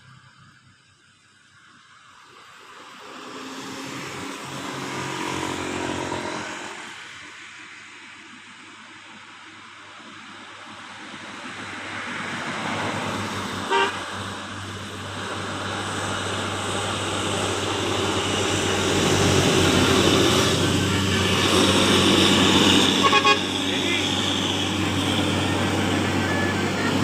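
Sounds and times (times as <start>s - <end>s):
bus engine and tyre noise: 0.0s - 27.0s.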